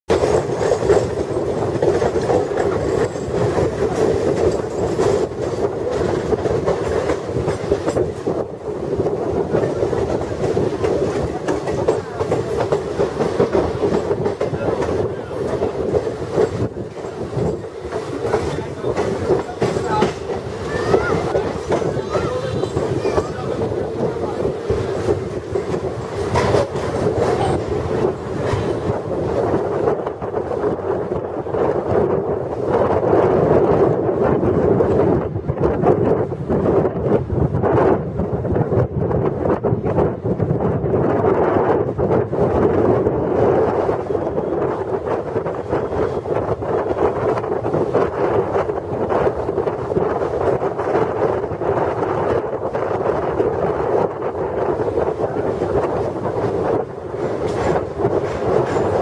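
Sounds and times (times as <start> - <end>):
clickety-clack over rail joints: 0.1 - 59.0
train wheels rumbling on rail: 0.1 - 59.0.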